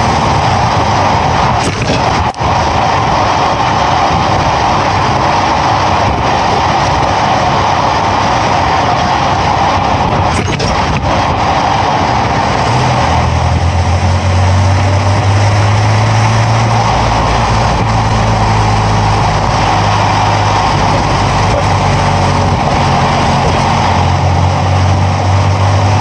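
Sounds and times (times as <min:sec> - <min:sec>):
low engine hum: 0:00.0 - 0:26.0
tyre and wind noise: 0:00.0 - 0:26.0.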